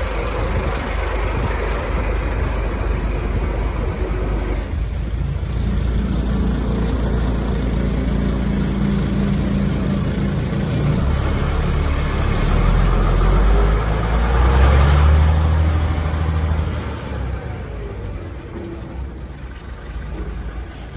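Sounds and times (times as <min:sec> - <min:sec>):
fire truck engine running: 0:00.0 - 0:20.9.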